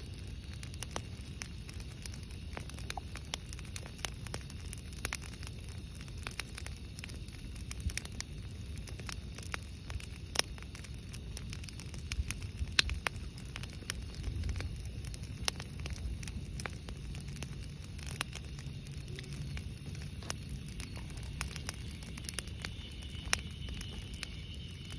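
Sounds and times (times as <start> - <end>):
campfire crackling and popping: 0.0 - 24.9.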